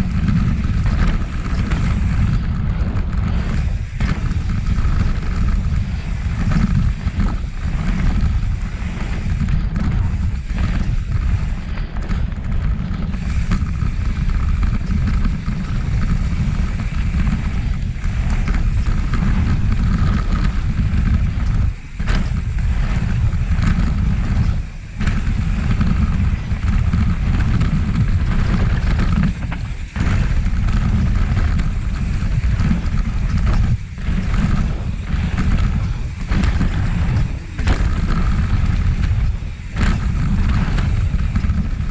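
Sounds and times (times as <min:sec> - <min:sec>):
tyre and bike rattle: 0:00.0 - 0:41.9
wind buffeting microphone: 0:00.0 - 0:41.9.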